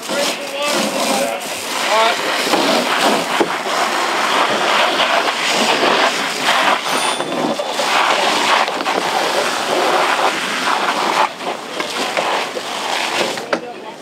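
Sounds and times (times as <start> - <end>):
fire hoses spraying water: 0.0 - 14.0.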